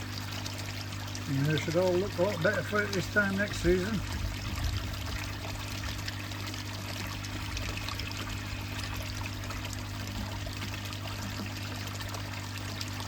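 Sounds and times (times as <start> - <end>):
water pouring into pond: 0.0 - 13.0.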